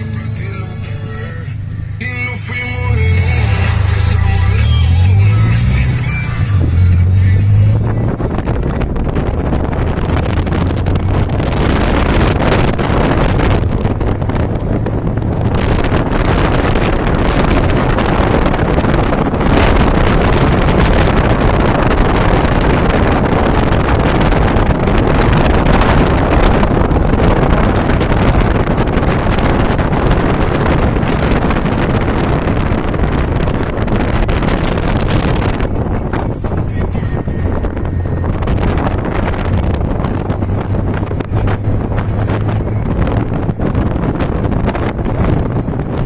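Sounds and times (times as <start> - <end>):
wind buffeting microphone: 2.8 - 46.0.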